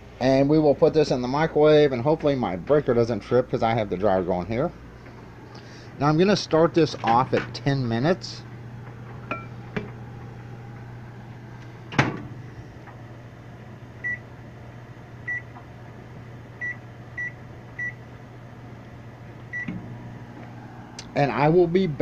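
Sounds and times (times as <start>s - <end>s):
clothes dryer humming: 0.0s - 22.0s.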